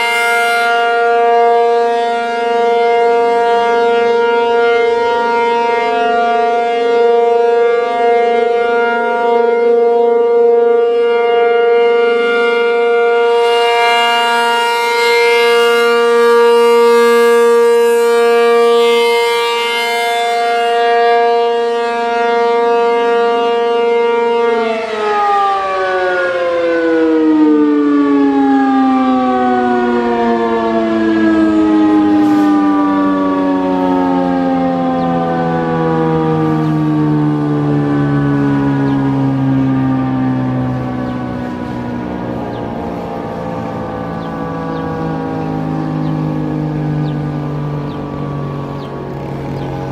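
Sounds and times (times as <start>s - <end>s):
civil defense siren: 0.0s - 49.9s.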